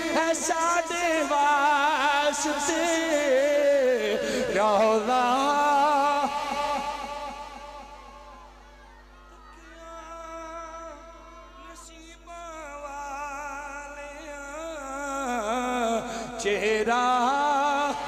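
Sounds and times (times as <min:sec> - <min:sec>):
man singing through microphone: 0:00.0 - 0:18.0.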